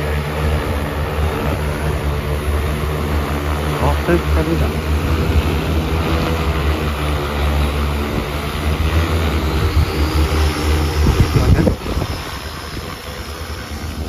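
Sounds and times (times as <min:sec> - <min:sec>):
drone rotors droning: 0:00.0 - 0:14.0.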